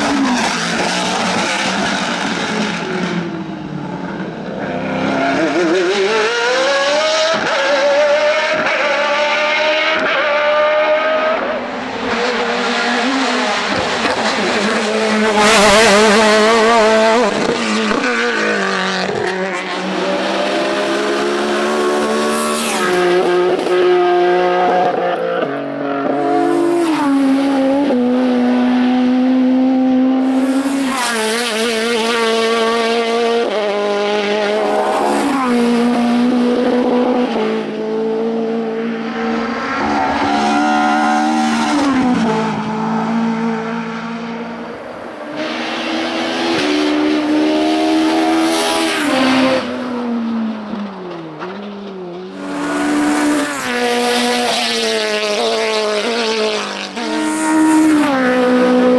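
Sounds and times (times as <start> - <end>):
race car engines revving: 0.0 - 58.9.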